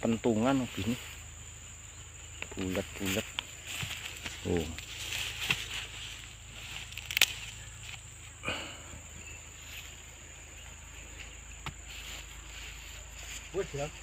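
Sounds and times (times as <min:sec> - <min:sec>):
high insect trill: 0:00.0 - 0:14.0
rustle in soil: 0:00.0 - 0:14.0.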